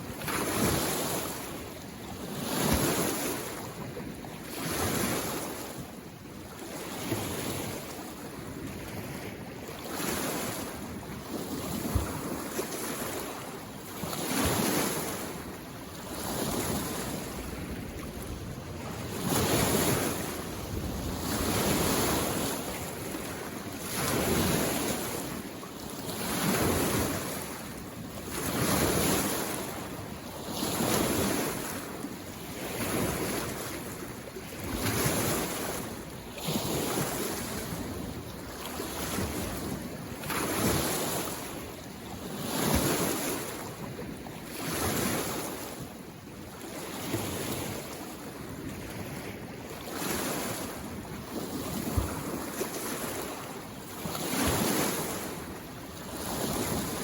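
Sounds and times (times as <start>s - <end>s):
small waves washing onto shore: 0.0s - 57.0s.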